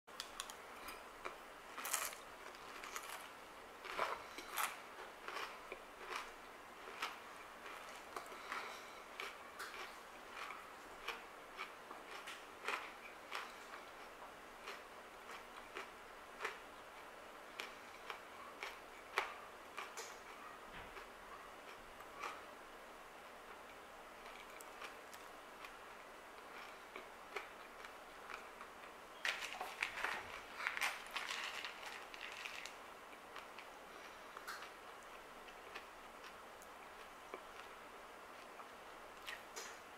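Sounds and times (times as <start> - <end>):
chewing crunchy cereal: 0.2 - 22.6, 23.5 - 39.8.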